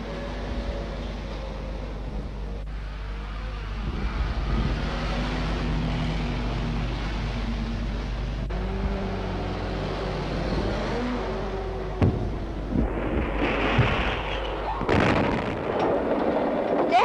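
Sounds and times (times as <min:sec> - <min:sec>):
vehicle engines pulling away: 0:00.0 - 0:16.8.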